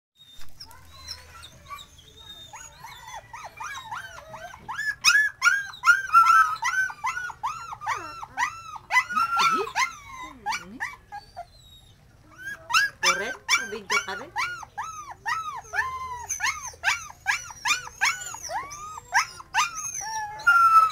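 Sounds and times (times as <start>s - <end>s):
puppies whining: 0.2s - 20.9s.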